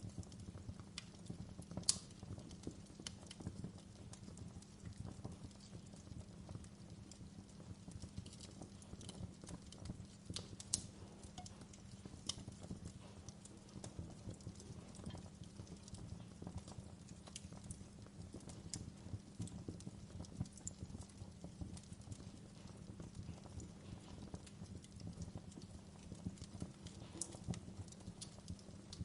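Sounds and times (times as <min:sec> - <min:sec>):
fire crackling and popping: 0:00.0 - 0:29.0
fire rumbling: 0:00.0 - 0:29.0.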